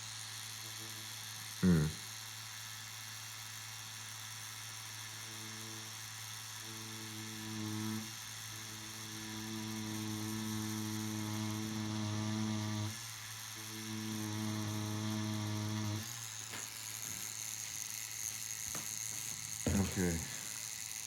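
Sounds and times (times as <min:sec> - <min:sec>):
tattoo machine buzzing: 0:00.0 - 0:21.0.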